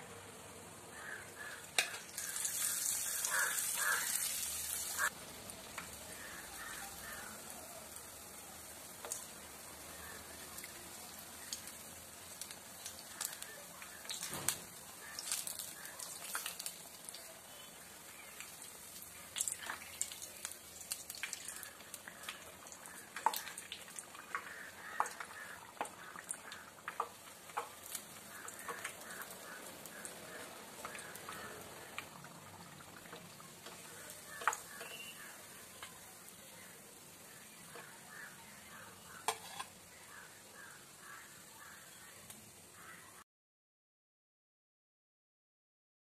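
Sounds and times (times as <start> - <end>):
food deep-frying in oil: 0.0 - 43.2.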